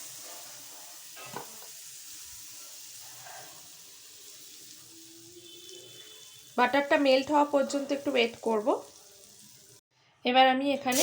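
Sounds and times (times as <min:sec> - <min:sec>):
butter sizzling: 0:00.0 - 0:09.8.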